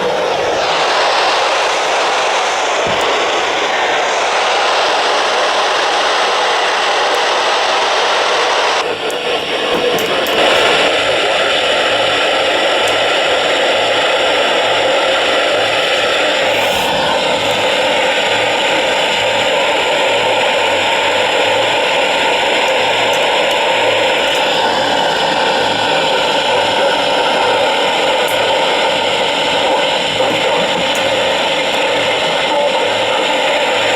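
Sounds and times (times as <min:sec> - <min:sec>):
radio static hiss: 0:00.0 - 0:33.9.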